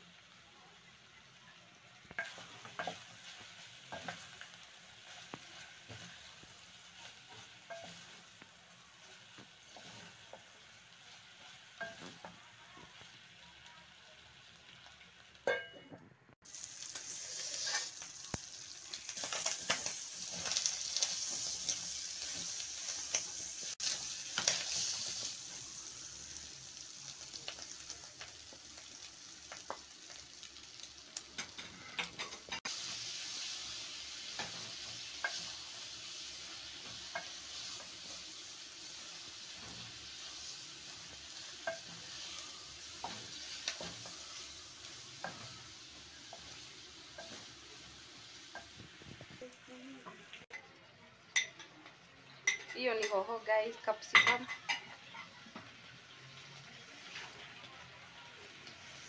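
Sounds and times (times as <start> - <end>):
food sizzling in oil: 0.0 - 15.8, 16.4 - 59.0.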